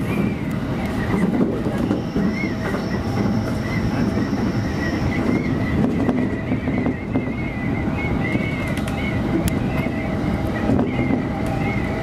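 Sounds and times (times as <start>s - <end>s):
train wheels rumbling on rail: 0.0s - 12.0s
high wavering whine: 1.7s - 12.0s.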